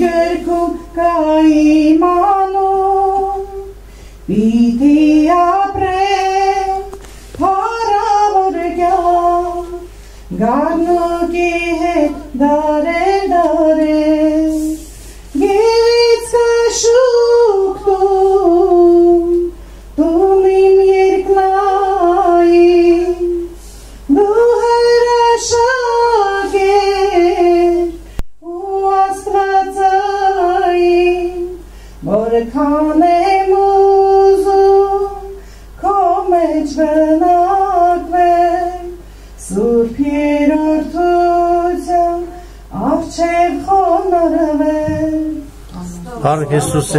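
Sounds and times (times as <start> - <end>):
woman singing unaccompanied: 0.0 - 46.9.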